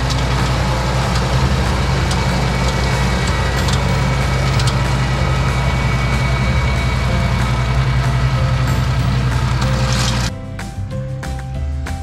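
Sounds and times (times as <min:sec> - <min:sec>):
debris striking mower: 0:00.0 - 0:10.3
tractor diesel engine under load: 0:00.0 - 0:10.3.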